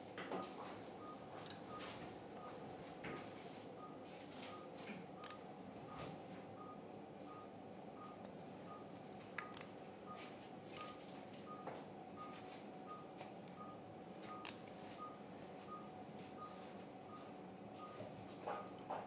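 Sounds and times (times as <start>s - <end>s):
patient monitor beeping: 0.3s - 18.7s.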